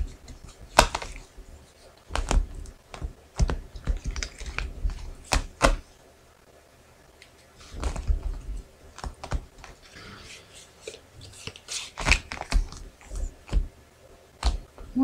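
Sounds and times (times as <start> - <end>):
cards being shuffled: 0.0 - 5.8, 7.2 - 13.7.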